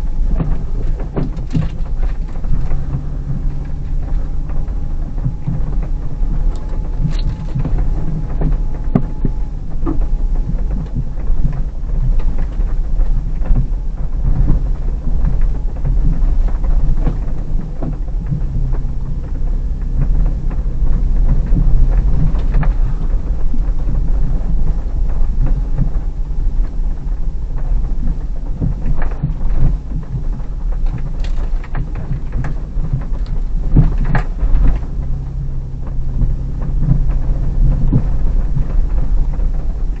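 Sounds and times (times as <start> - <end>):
car engine drone in cabin: 0.0 - 40.0
knocks and rattles: 0.0 - 40.0
tyres rumbling over snow: 0.0 - 40.0.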